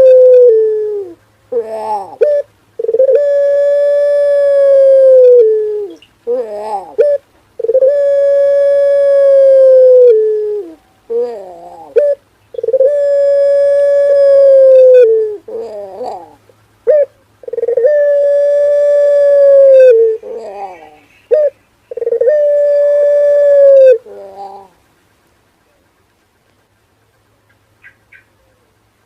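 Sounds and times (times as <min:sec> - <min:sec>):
dove cooing: 0:00.0 - 0:24.8.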